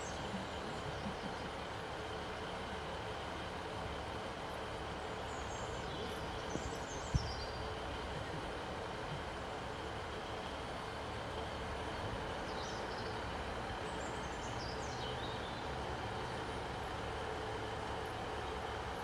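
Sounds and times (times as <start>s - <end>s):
diesel train engine idling: 0.0s - 19.0s.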